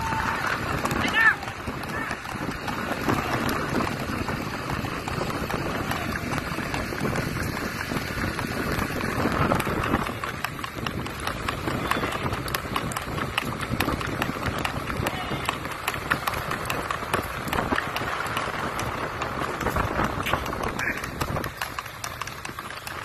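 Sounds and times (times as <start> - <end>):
heavy rain and wind: 0.0 - 23.0.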